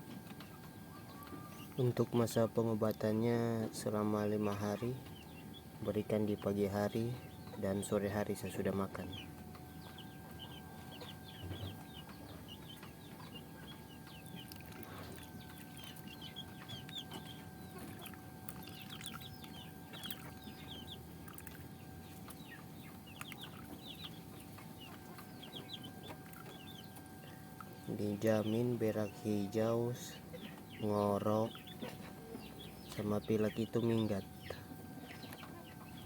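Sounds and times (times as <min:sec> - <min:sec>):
chickens clucking: 0:00.0 - 0:02.6, 0:03.2 - 0:36.0
steady faint hum: 0:00.0 - 0:36.0.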